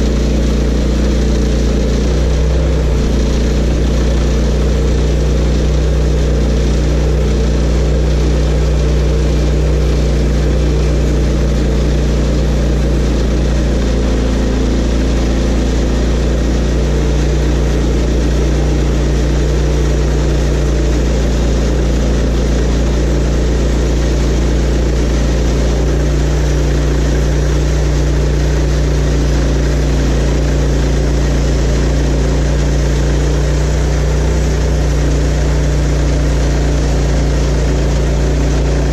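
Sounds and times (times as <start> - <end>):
band sawmill engine humming: 0.0 - 38.9.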